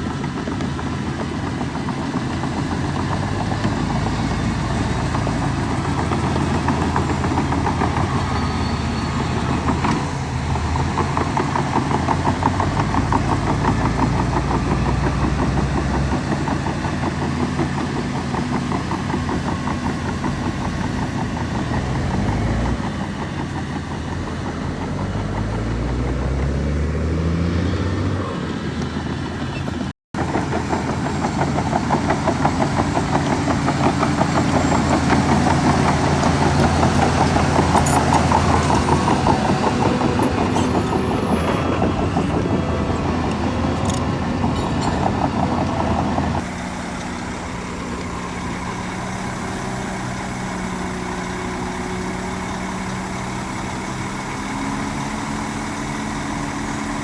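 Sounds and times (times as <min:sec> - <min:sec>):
heavy diesel engine running: 0:00.0 - 0:26.6, 0:30.2 - 0:57.0.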